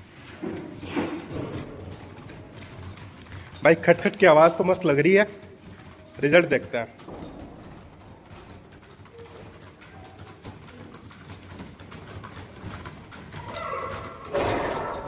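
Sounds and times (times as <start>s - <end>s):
keyboards clattering: 0.0s - 15.0s.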